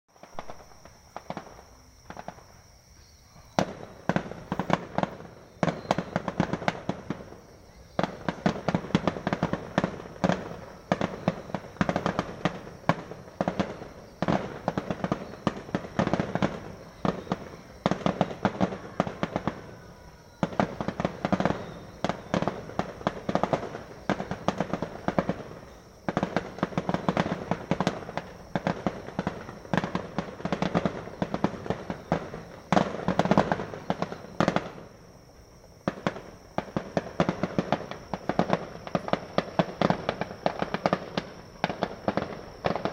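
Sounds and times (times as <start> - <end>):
fireworks bangs and crackles: 0.1 - 42.9.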